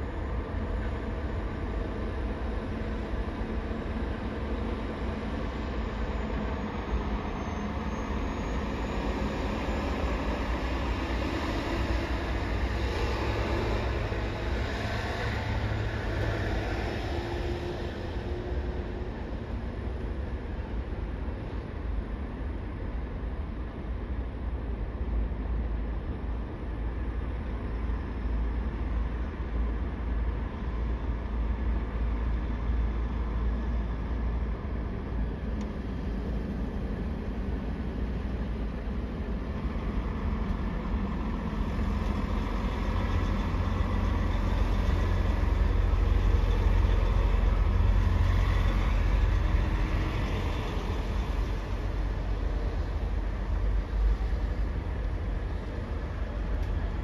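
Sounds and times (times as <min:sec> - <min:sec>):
diesel engines rumbling: 0:00.0 - 0:57.0.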